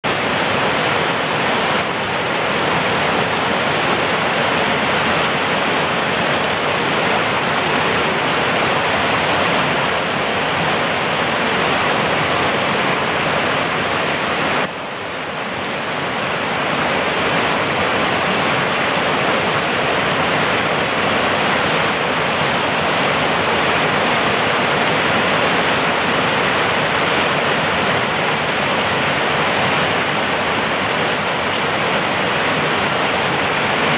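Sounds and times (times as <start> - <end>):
creek rushing over rocks: 0.0 - 33.9
small waterfall: 0.0 - 33.9.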